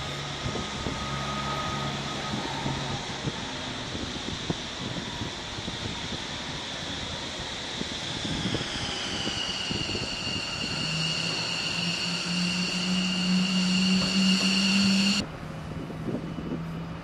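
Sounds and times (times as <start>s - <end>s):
aircraft turbine whine: 0.0s - 17.0s
low hum: 0.0s - 17.0s.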